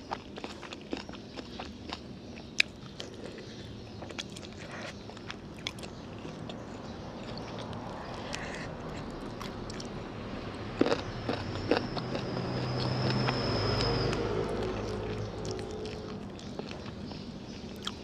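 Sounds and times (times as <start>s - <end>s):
close chewing and crunching: 0.0s - 10.0s, 10.6s - 18.0s.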